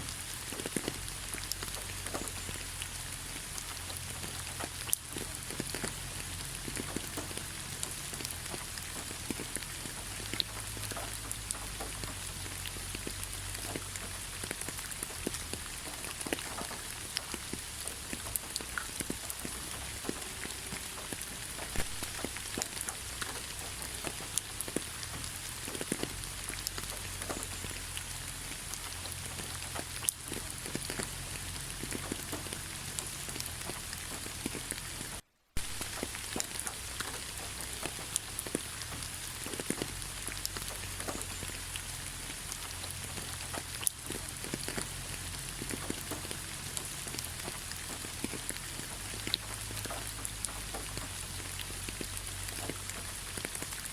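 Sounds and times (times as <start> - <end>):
raindrops ticking: 0.0 - 53.9
steady rain falling: 0.0 - 53.9.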